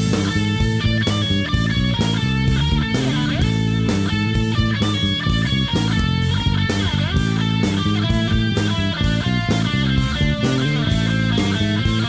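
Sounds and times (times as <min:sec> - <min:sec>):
guitar band music with beat: 0:00.0 - 0:12.0.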